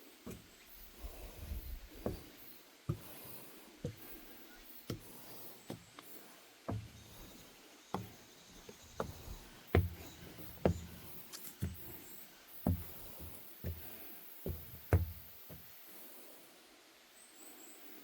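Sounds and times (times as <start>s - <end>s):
footsteps on wooden deck: 0.0s - 15.9s.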